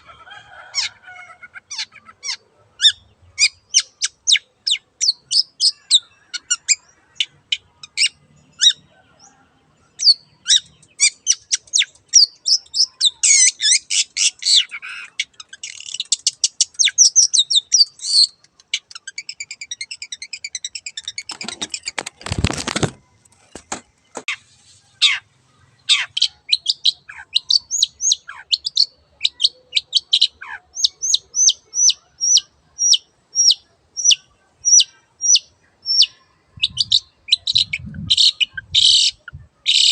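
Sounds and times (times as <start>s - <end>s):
shrike singing chirps and trills: 1.7s - 22.0s, 24.3s - 39.9s.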